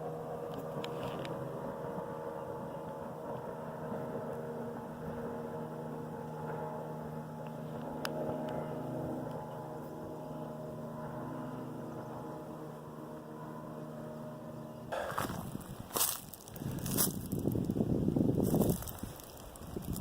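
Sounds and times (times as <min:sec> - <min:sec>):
motorboat engine drone: 0:00.0 - 0:20.0.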